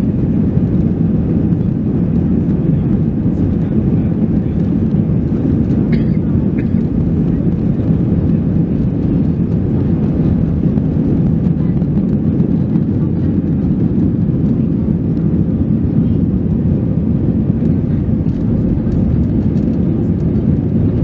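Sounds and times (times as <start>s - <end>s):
jet engines at takeoff power: 0.0s - 21.0s.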